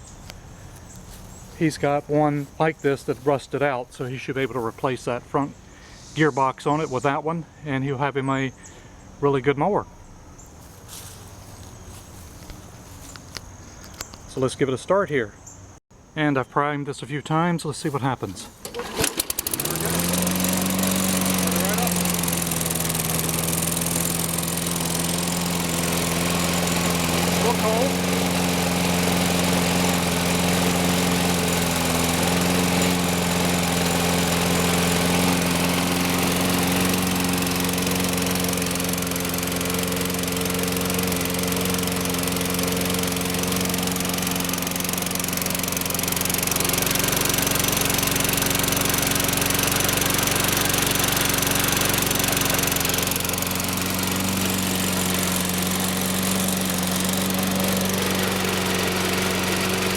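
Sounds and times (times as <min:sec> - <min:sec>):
lawn mower engine running: 0:00.1 - 0:06.1, 0:10.6 - 0:14.3, 0:17.8 - 0:59.9.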